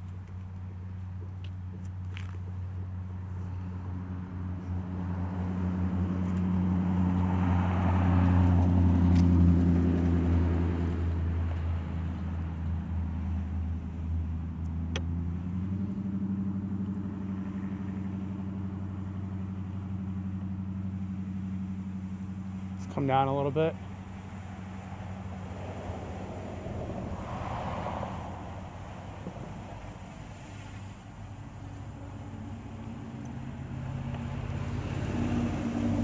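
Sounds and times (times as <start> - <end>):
low motor hum: 0.0 - 36.0.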